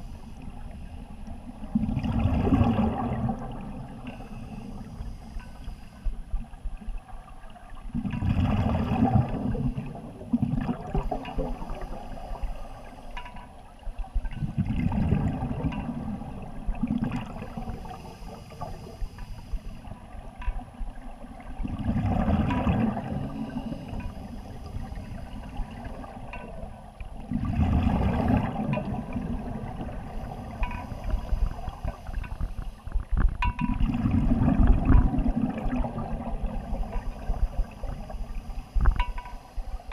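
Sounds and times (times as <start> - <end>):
diver's bubbles gurgling underwater: 0.6 - 4.2, 6.3 - 12.4, 14.1 - 17.9, 20.2 - 24.1, 24.8 - 39.9.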